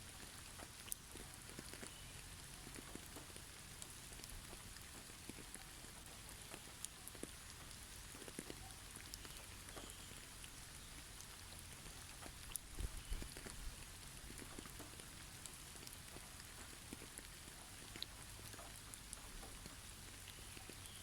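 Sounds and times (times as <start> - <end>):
rain pattering on trees: 0.0 - 21.0.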